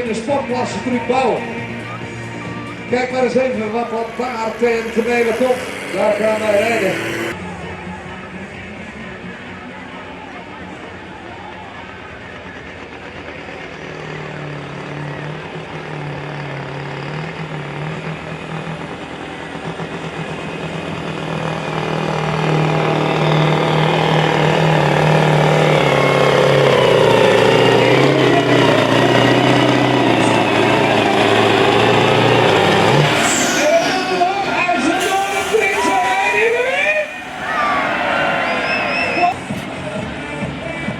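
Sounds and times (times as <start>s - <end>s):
truck engine working hard: 0.0s - 40.9s.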